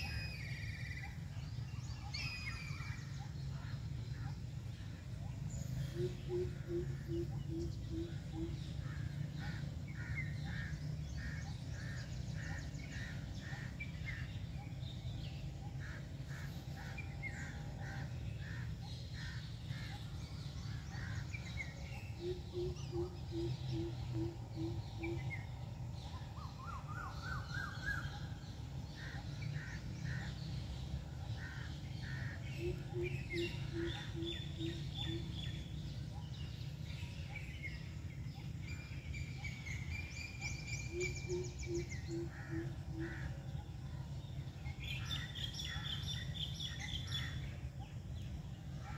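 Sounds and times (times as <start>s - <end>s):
birds chattering: 0.0s - 48.9s.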